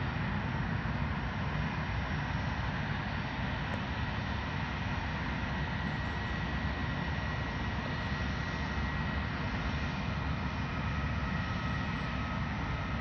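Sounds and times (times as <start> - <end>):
high engine whine: 0.0 - 13.0
jet engines running: 0.0 - 13.0
lower engine whine: 0.0 - 13.0.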